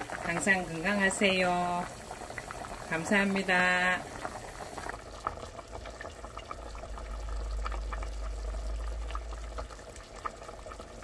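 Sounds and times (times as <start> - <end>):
soup boiling and bubbling: 0.0 - 11.0.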